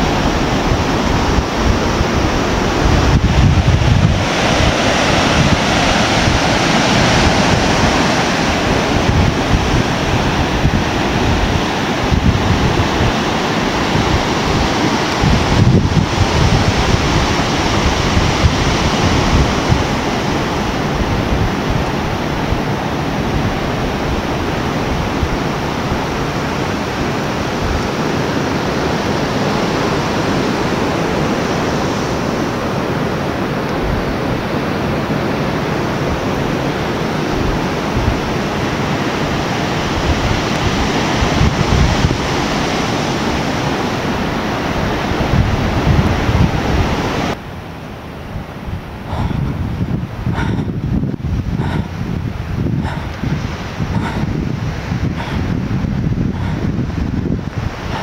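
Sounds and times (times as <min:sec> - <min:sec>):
surf washing over rocks: 0:00.0 - 0:58.0
wind gusting on microphone: 0:00.0 - 0:58.0.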